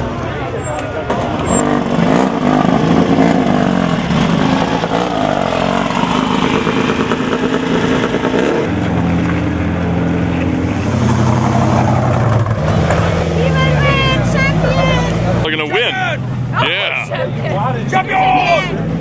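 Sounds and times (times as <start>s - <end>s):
race vehicle engines revving: 0.0s - 19.0s
steady engine note: 1.1s - 19.0s.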